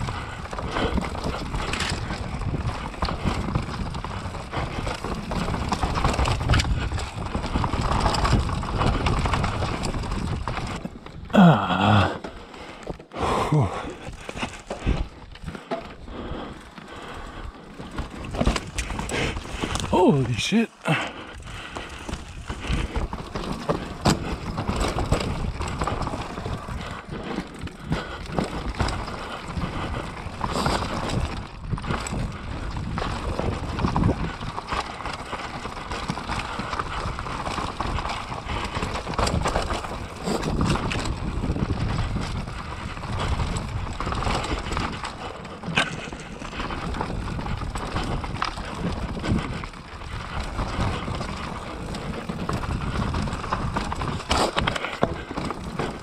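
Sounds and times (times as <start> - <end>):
bike rattling over bumps: 0.0 - 56.0
bike tyres on dirt trail: 0.0 - 56.0.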